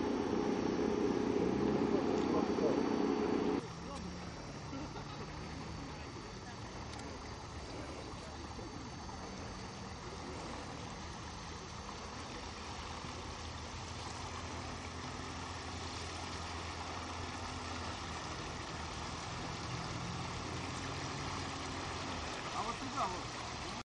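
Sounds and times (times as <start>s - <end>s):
low motor hum: 0.0s - 23.8s
water noise: 0.0s - 23.8s
wind: 0.0s - 23.8s.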